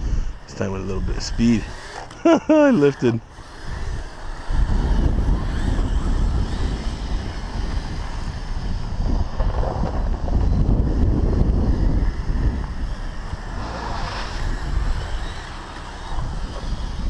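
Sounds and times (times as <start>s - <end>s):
wind buffeting microphone: 0.0s - 2.0s, 2.6s - 17.0s
electric motor and tracks: 0.0s - 17.0s.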